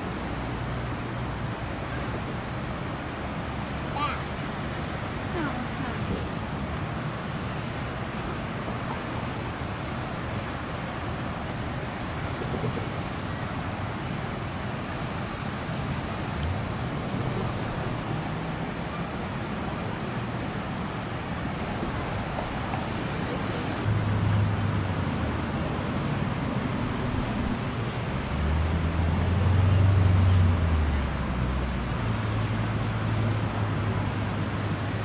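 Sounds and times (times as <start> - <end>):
outdoor background rush: 0.0 - 35.0.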